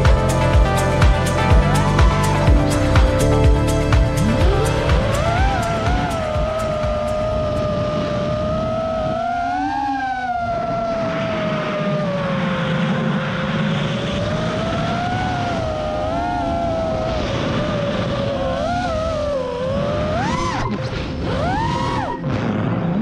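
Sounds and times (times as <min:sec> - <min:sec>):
drone motors whining: 0:00.0 - 0:23.0
rushing wind noise: 0:00.0 - 0:23.0.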